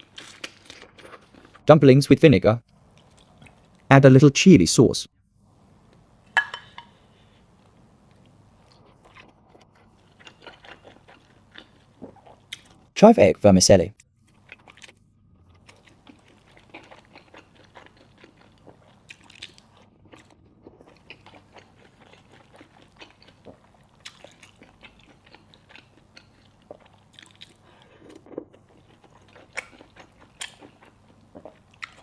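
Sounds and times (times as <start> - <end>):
person chewing food: 0.0 - 1.6, 6.7 - 12.9, 14.1 - 32.0.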